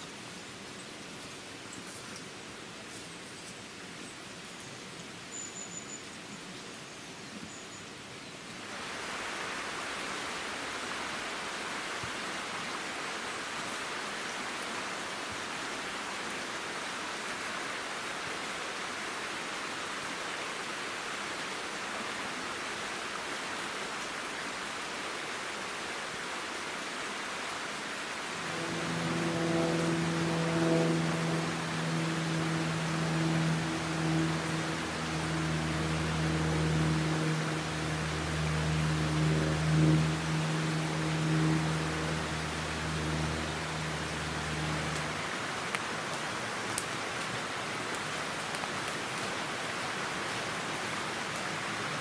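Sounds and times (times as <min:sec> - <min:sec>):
stream rushing: 0:08.0 - 0:52.0.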